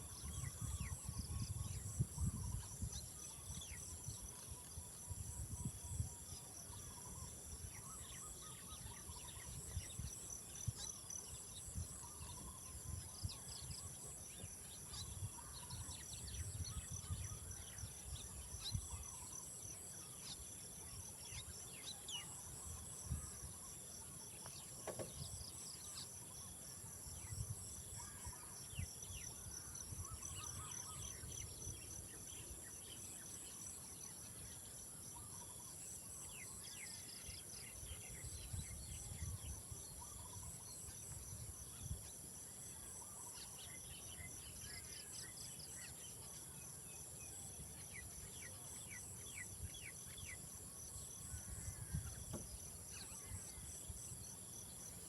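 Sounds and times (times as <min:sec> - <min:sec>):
insect pulsing chirr: 0:00.0 - 0:55.0.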